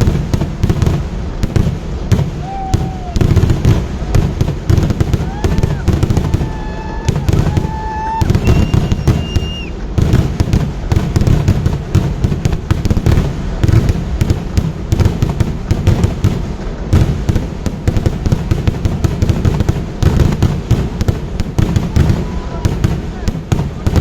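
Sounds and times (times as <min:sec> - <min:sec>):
firework bangs and booms: 0:00.0 - 0:24.0.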